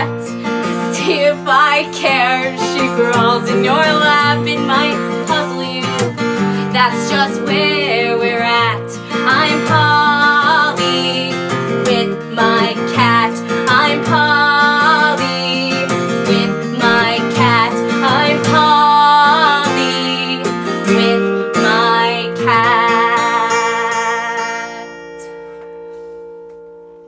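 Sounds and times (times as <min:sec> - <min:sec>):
woman singing with vibrato: 0:00.0 - 0:25.4
acoustic guitar strummed: 0:00.0 - 0:27.0.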